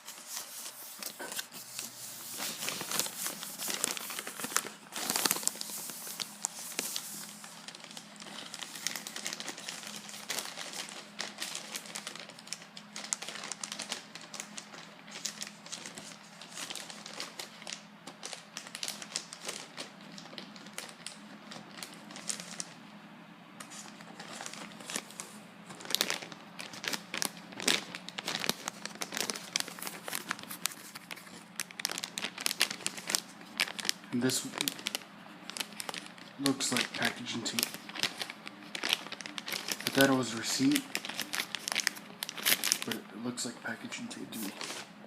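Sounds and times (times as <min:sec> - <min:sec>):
plastic film crinkling: 0:00.0 - 0:22.8, 0:23.6 - 0:45.0.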